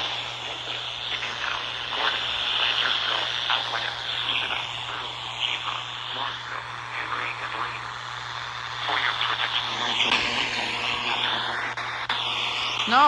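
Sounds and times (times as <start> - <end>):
radio static hiss: 0.0 - 13.0
steady low hum: 0.0 - 13.0.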